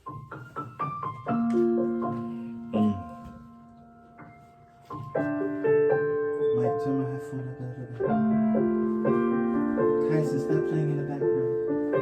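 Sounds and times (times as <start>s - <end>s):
piano chords and notes: 0.0s - 12.0s.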